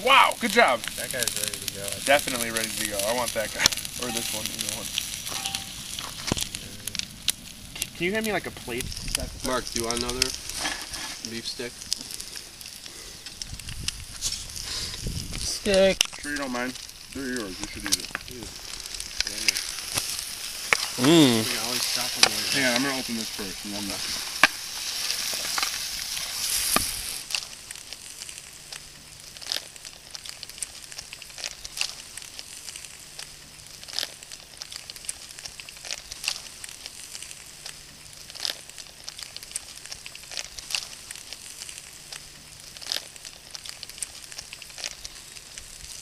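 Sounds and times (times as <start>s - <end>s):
fire crackling and popping: 0.0s - 46.0s
food sizzling: 0.0s - 46.0s.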